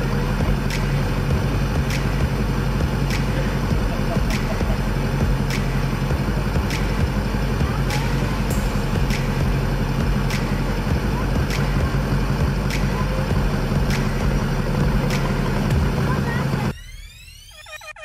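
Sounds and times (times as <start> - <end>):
vehicle engine idling: 0.0 - 17.1.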